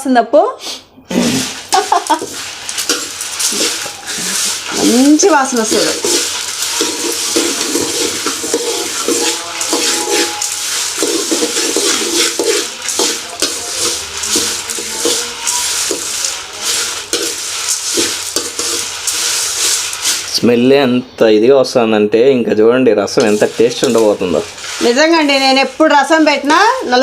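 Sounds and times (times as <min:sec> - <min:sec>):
spatula scraping a pan: 0:01.1 - 0:20.5, 0:23.2 - 0:27.0
dry grains rustling in a pan: 0:01.2 - 0:20.7, 0:23.1 - 0:27.0.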